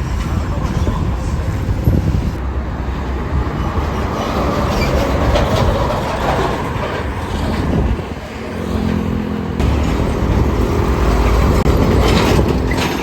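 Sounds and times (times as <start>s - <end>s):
large vehicle rumbling past: 2.4s - 13.0s.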